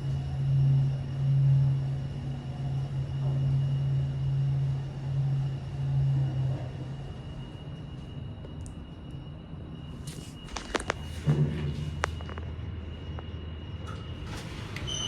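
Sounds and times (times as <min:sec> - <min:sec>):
lift running hum: 0:00.0 - 0:15.0.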